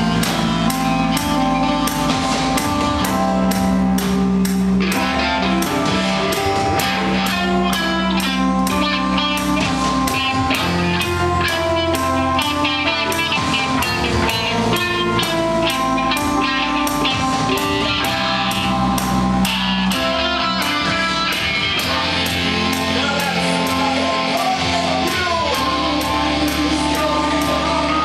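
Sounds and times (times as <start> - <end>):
live band playing: 0.0 - 28.0.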